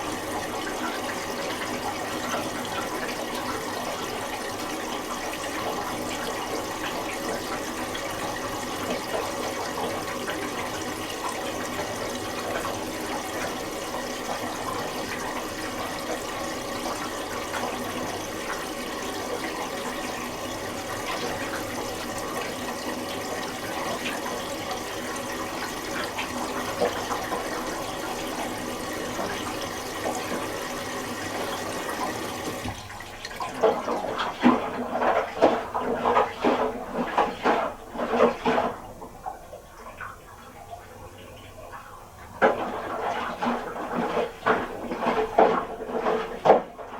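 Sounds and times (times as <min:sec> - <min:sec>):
washing machine filling with water: 0:00.0 - 0:46.9.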